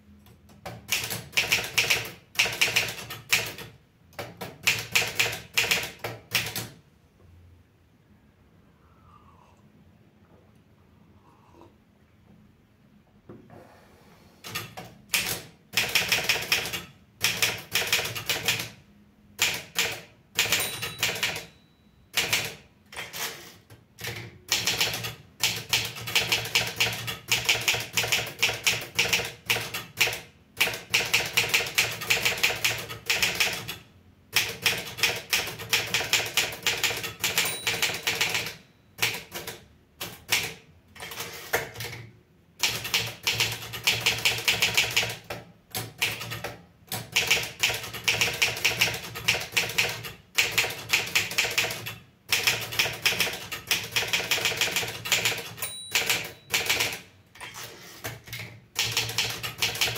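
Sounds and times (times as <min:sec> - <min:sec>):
manual typewriter key strikes: 0:00.5 - 0:06.8, 0:14.5 - 0:18.8, 0:19.4 - 0:33.8, 0:34.4 - 0:42.0, 0:42.6 - 0:59.9.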